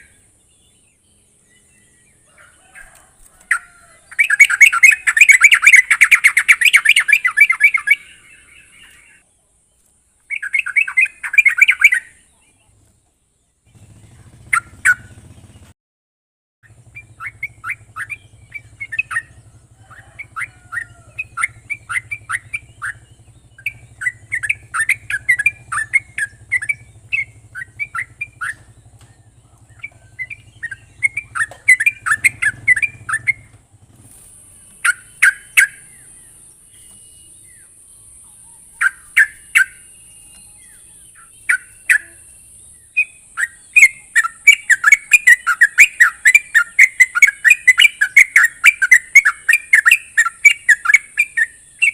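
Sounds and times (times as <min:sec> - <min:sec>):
bird chattering calls: 0:00.0 - 0:09.2, 0:10.3 - 0:12.7, 0:13.7 - 0:15.7, 0:16.6 - 0:51.9.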